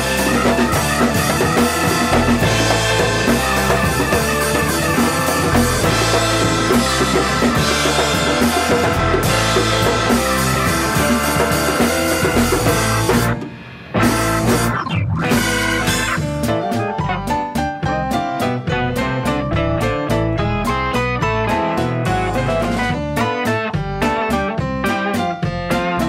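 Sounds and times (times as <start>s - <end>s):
drum kit: 0.0s - 26.0s
electric bass: 0.0s - 26.0s
electric guitar: 0.0s - 26.0s
keyboards: 0.0s - 26.0s.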